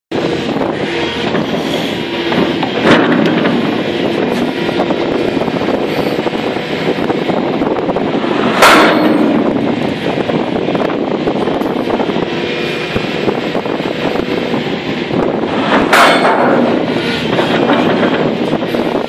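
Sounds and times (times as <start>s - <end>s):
excavator engine running: 0.1s - 19.0s
hydraulic breaker hammering rock: 0.7s - 6.2s, 7.0s - 12.3s, 12.9s - 19.0s.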